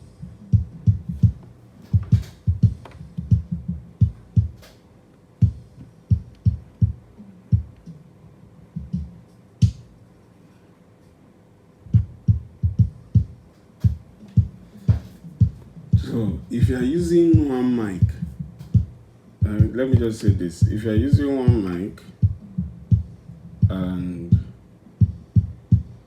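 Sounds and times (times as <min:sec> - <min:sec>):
kick drum thumps: 0:00.0 - 0:04.7, 0:05.4 - 0:07.8, 0:08.8 - 0:09.9, 0:11.9 - 0:26.0.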